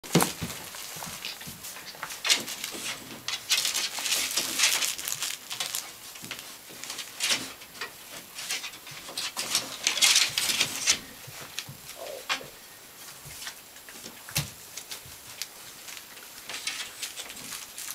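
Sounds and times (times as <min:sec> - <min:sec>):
puppies playing and scuffling: 0:00.0 - 0:17.9.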